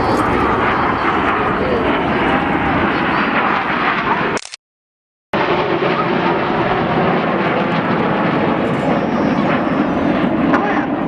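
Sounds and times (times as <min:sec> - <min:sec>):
jets flying overhead: 0:00.0 - 0:04.4, 0:05.4 - 0:11.0.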